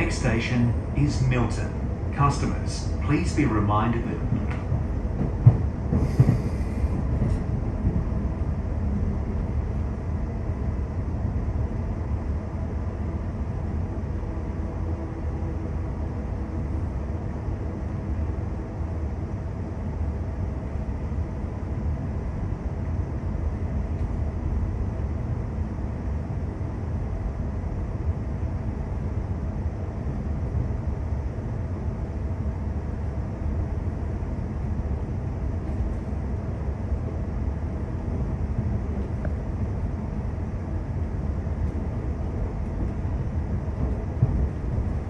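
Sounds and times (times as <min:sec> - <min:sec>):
train wheels rumbling on track: 0:00.0 - 0:27.2, 0:28.4 - 0:45.0
faint steady hum: 0:00.0 - 0:45.0.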